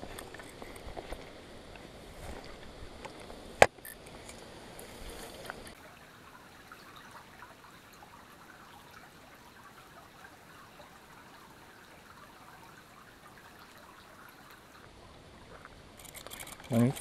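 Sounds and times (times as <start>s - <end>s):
creek trickling over stones: 0.0s - 17.0s.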